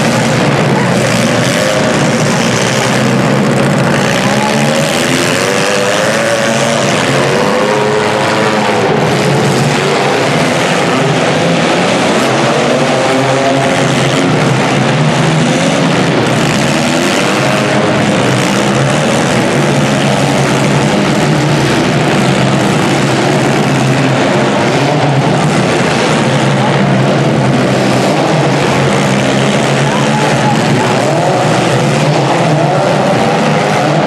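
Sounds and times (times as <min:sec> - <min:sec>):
car engines revving together: 0:00.0 - 0:34.0.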